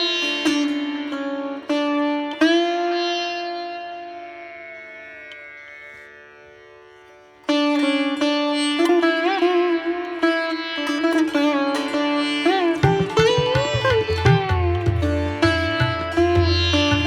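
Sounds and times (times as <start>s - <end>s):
plucked string instrument: 0.0s - 5.6s, 7.5s - 17.0s.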